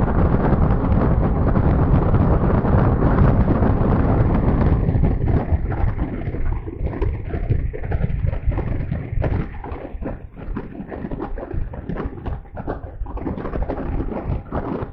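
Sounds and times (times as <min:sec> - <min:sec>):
irregular thumps: 0:00.0 - 0:14.9
wind buffeting microphone: 0:00.0 - 0:14.9.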